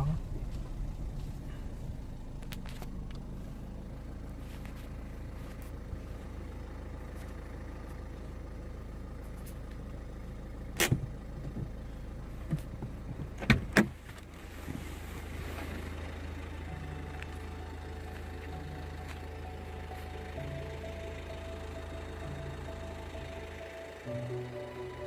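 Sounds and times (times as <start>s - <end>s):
car driving rumble inside cabin: 0.0s - 25.0s.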